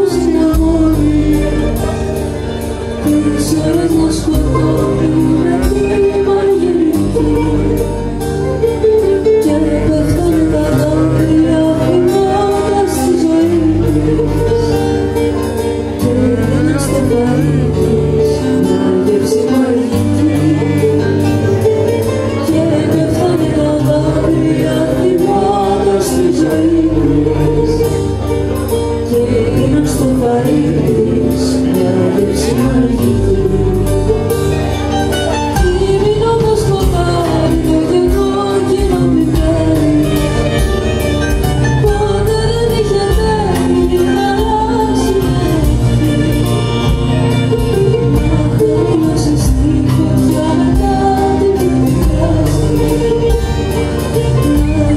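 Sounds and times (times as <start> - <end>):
folk-rock band playing: 0.0 - 54.9
woman singing: 0.0 - 54.9.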